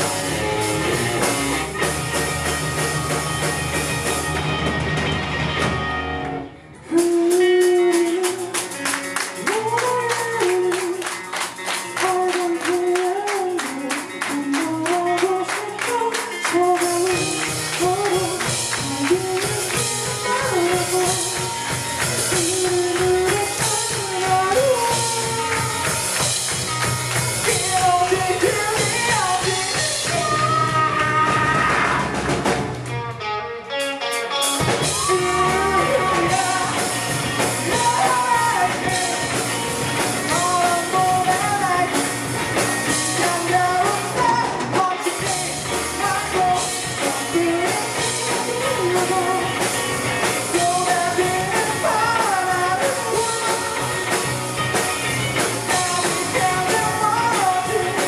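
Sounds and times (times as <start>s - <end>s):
live rock band playing: 0.0s - 58.0s
person singing: 6.8s - 26.3s, 27.4s - 32.4s, 33.7s - 42.2s, 42.8s - 54.3s, 55.4s - 58.0s.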